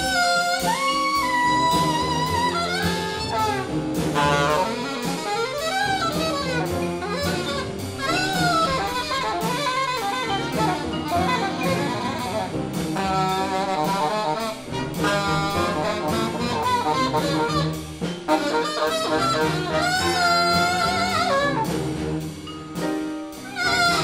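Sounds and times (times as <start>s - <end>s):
jazz tune with brass: 0.0s - 24.0s
steady drum beat: 0.0s - 24.0s.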